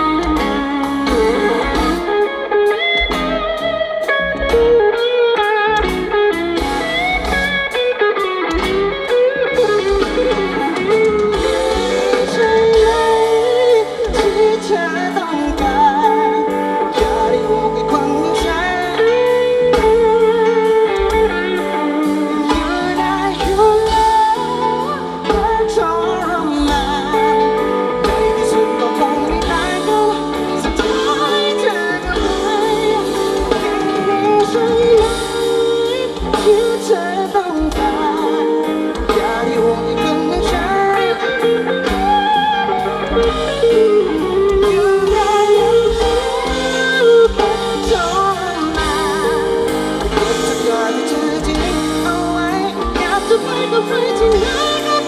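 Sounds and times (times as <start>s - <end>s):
drum kit: 0.0s - 55.0s
electric guitar: 0.0s - 55.0s
person singing: 0.0s - 55.0s.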